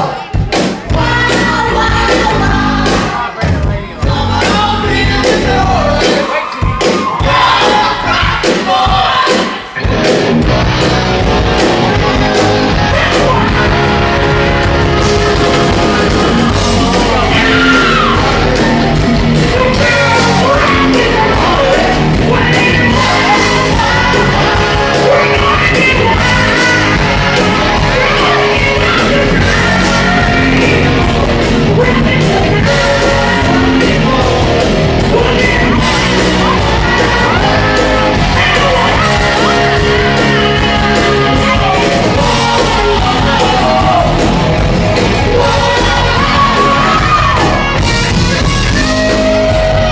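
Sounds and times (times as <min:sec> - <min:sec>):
person singing: 0:00.0 - 0:10.8, 0:11.8 - 0:49.9
live rock band playing: 0:00.0 - 0:49.9.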